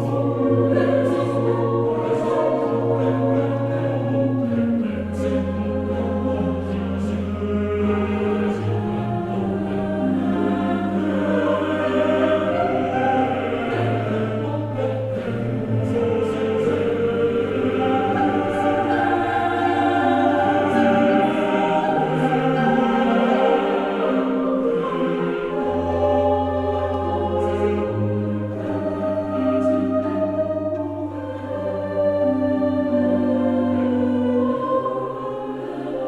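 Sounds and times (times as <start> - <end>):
choir singing sacred music: 0.0 - 36.0.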